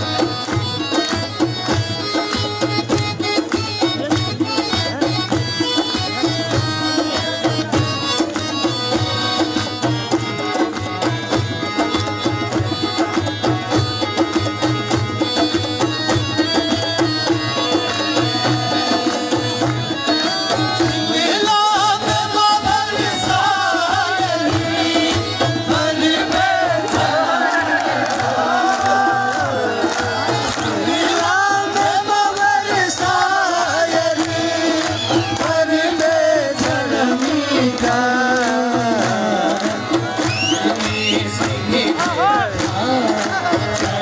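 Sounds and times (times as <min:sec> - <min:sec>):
drums beating: 0:00.0 - 0:44.0.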